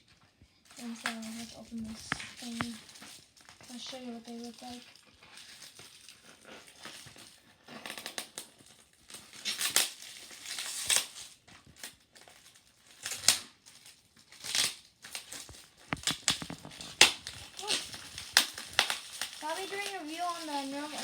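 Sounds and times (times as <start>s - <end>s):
wrapping crinkling and tearing: 0.0s - 21.0s.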